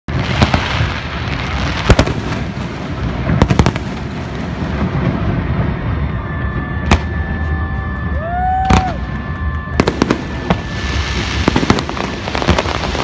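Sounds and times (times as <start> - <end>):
fireworks bangs: 0.1 - 13.0
constant rumbling noise: 0.9 - 13.0.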